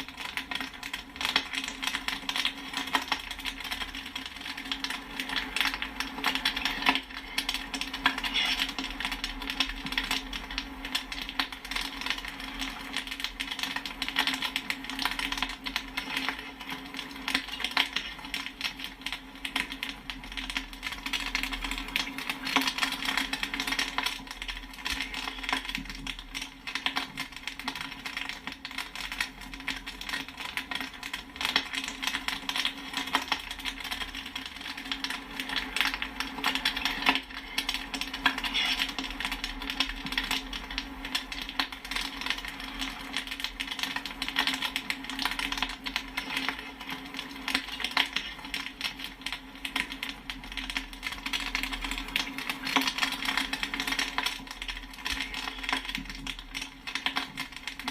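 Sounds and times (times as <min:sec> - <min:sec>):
popcorn popping: 0:00.0 - 0:57.9.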